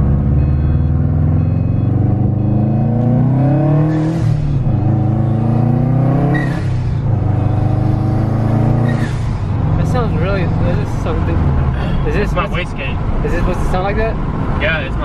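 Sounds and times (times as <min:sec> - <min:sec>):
turbocharged car engine revving: 0:00.0 - 0:12.4.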